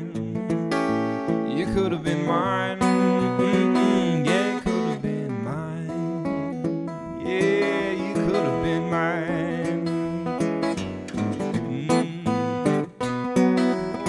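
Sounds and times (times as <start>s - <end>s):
acoustic guitar playing: 0.0s - 14.0s.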